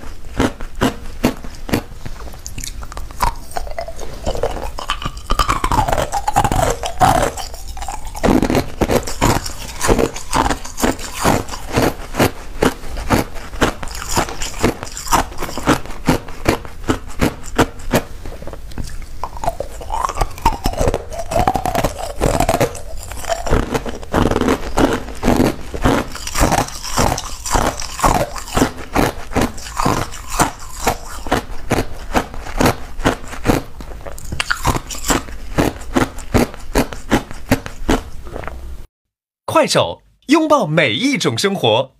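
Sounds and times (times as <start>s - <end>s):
ice cubes crunching in mouth: 0.0s - 38.5s.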